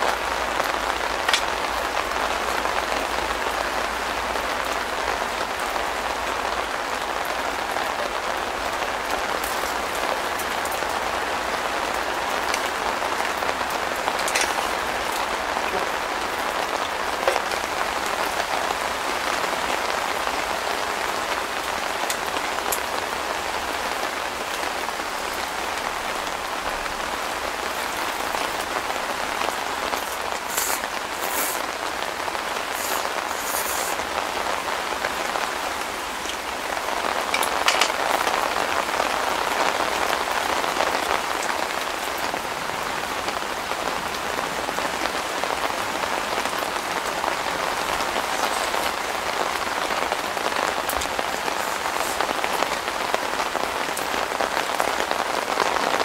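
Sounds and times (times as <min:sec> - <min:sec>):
rain pattering on tent fabric: 0:00.0 - 0:56.0.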